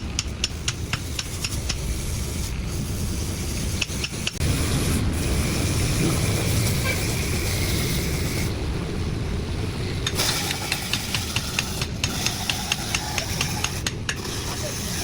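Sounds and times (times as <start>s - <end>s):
scraping and rubbing: 0.0s - 8.6s, 10.1s - 15.0s
low rumbling noise: 0.0s - 15.0s.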